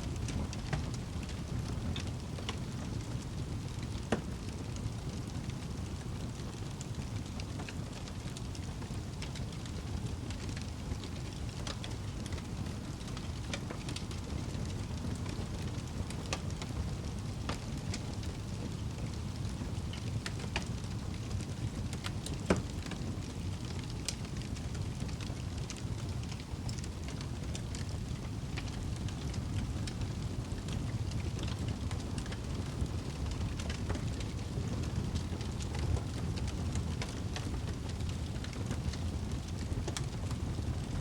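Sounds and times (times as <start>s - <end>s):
fire crackling in a fireplace: 0.0s - 41.0s
fire popping: 0.1s - 41.0s.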